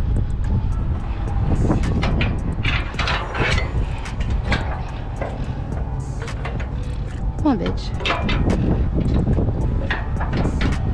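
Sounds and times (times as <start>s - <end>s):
truck engine rumbling: 0.0s - 10.9s
metallic clicks and knocks: 1.6s - 10.9s.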